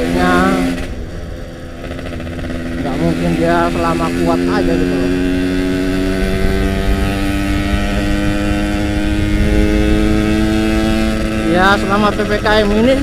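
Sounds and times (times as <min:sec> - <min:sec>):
two-stroke motorcycle engine running: 0:00.0 - 0:13.0.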